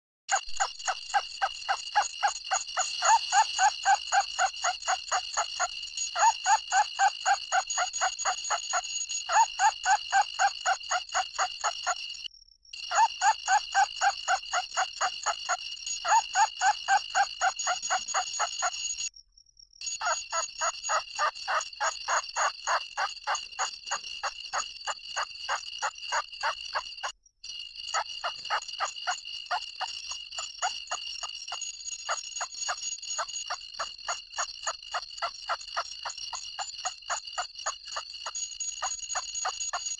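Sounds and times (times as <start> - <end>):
chattering trill of squeaks: 0.3 - 12.2, 12.8 - 19.0, 19.9 - 27.1, 27.9 - 39.9.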